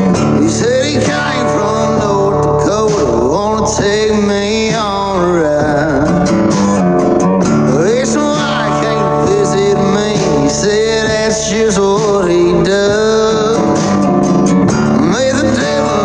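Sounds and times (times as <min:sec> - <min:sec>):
song with strummed guitar: 0:00.0 - 0:16.0.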